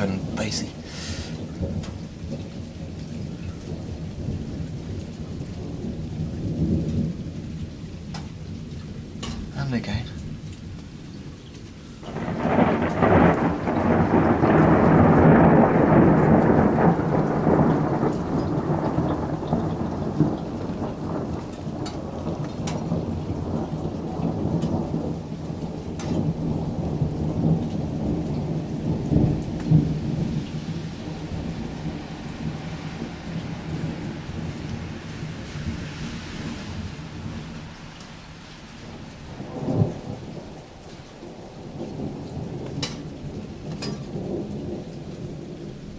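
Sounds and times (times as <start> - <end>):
thunder rolling: 0.0 - 10.7, 12.0 - 45.9
sharp drips: 0.0 - 15.0, 16.1 - 45.9
steady rain: 0.0 - 45.9.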